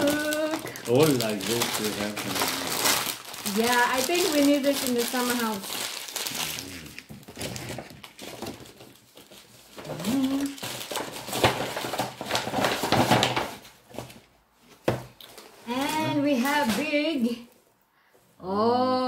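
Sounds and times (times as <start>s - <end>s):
wrapping paper rustling: 0.0s - 17.6s.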